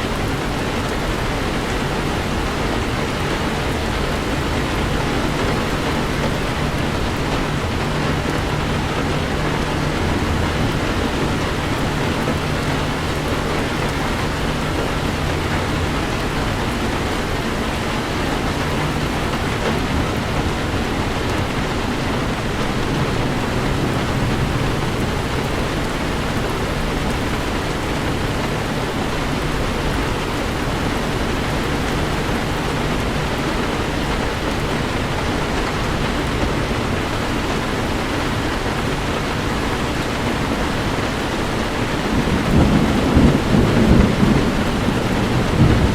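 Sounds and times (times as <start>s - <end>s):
heavy rain on a vehicle: 0.0s - 45.9s
low rumble of driving vehicle: 0.0s - 45.9s.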